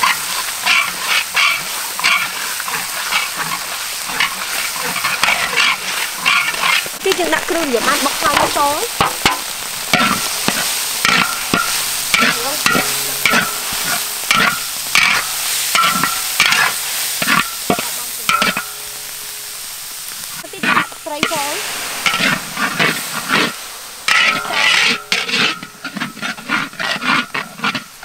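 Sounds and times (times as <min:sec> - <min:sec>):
metal spatula scraping a wok: 0:00.0 - 0:28.0
spice paste sizzling: 0:00.0 - 0:28.0.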